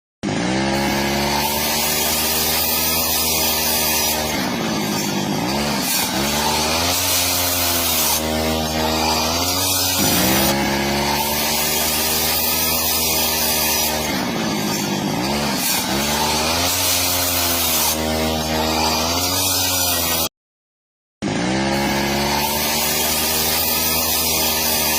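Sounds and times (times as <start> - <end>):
chainsaw-like power tool running: 0.2 - 20.3, 21.2 - 24.9.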